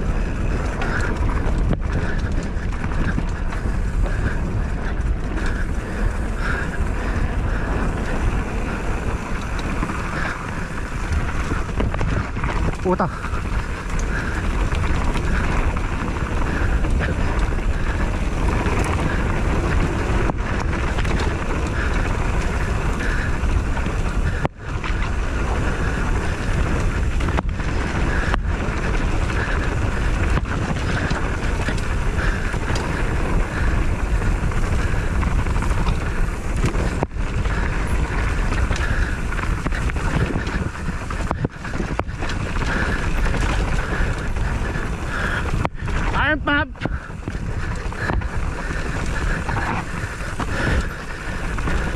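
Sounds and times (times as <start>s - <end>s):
vehicle engine running: 0.0s - 51.9s
wind rushing over microphone: 0.0s - 51.9s.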